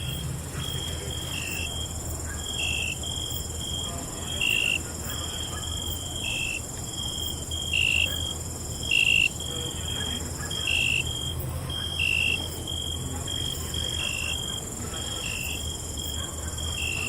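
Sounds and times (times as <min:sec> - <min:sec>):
crickets chirping: 0:00.0 - 0:17.0
high insect trill: 0:00.0 - 0:17.0.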